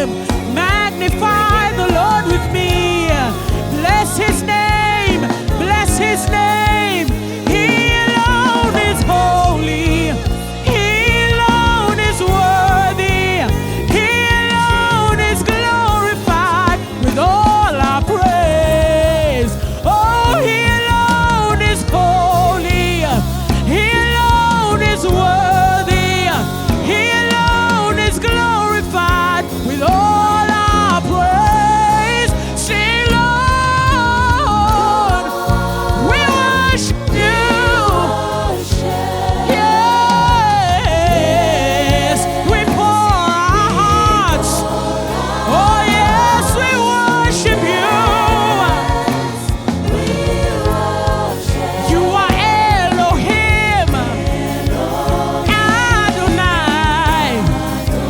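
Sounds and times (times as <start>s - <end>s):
instrumental accompaniment: 0.0s - 58.0s
voices singing with vibrato: 0.0s - 58.0s.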